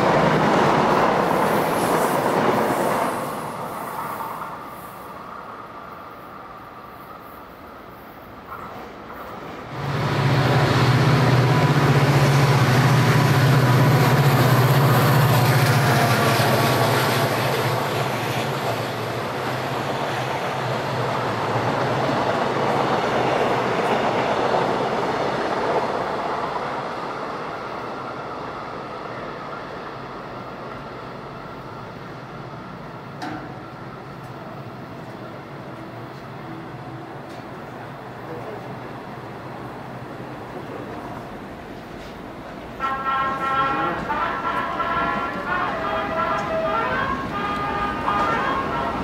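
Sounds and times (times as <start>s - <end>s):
train wheels rumbling on rails: 8.0s - 49.0s.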